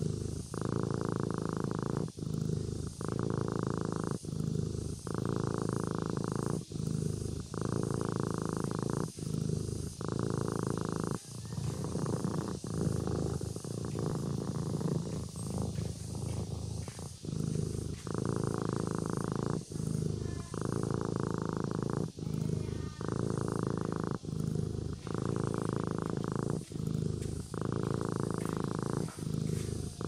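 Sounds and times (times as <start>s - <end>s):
kitten purring: 0.0s - 30.0s.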